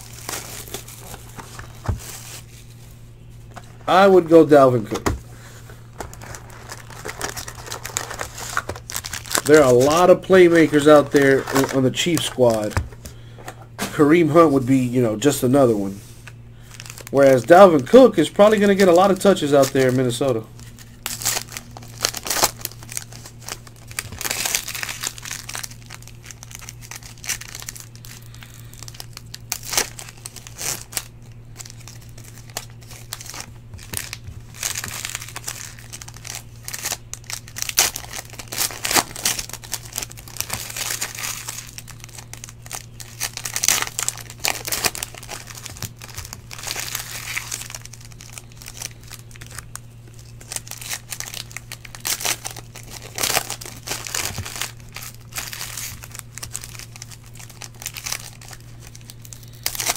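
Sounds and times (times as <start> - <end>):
foil wrappers crinkling and tearing: 0.0 - 59.9.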